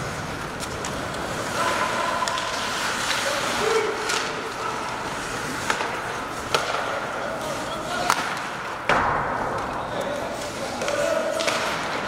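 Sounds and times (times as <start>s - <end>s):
skates scraping on ice: 0.0s - 12.0s
stick and puck clacks: 0.0s - 12.0s.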